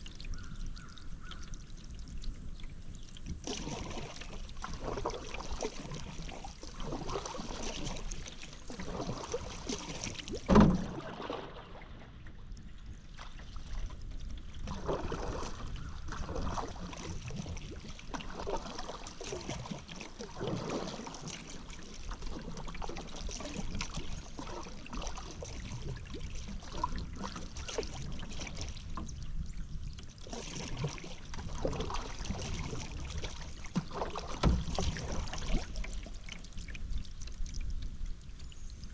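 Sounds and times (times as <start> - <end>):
paddle splashes in water: 2.3 - 38.9.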